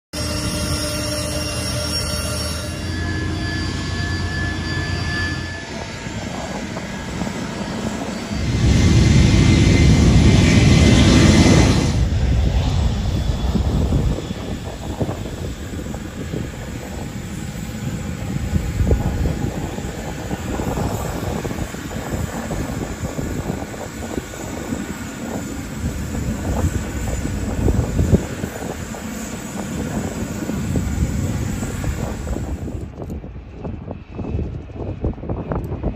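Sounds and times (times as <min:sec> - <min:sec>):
jet engines rumbling at takeoff: 0:02.7 - 0:35.9.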